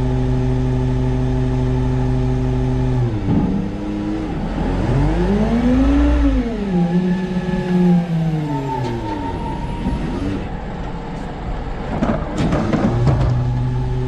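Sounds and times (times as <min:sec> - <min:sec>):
garbage truck engine revving: 0:00.0 - 0:14.0.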